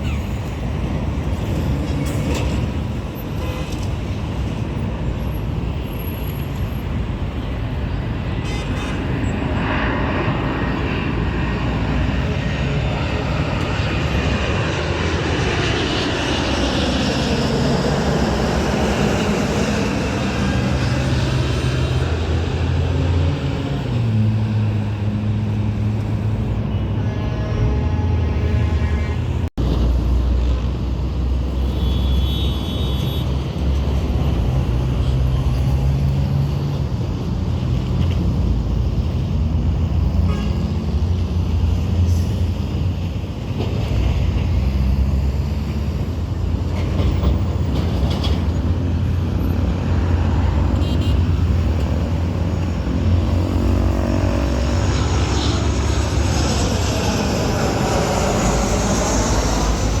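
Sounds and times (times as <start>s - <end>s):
jet airliner landing approach: 0.0s - 60.0s
road traffic rumble: 0.0s - 60.0s.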